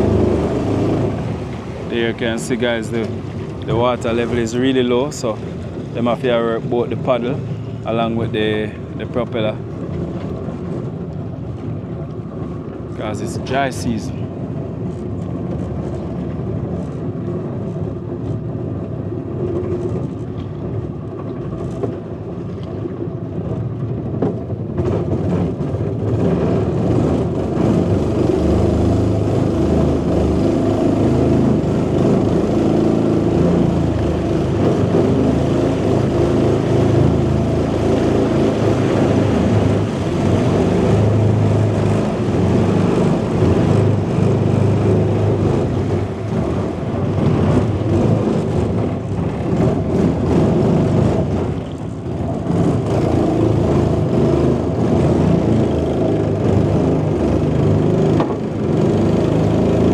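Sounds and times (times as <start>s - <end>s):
boat motor running: 0.0s - 59.9s.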